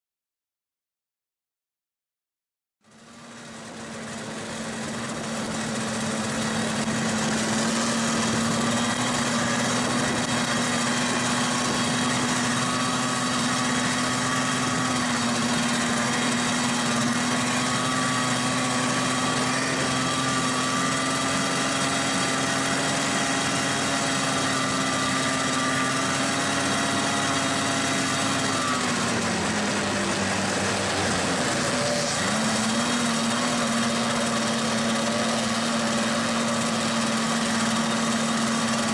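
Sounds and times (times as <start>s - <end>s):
snowmobile engine running: 2.8s - 38.9s.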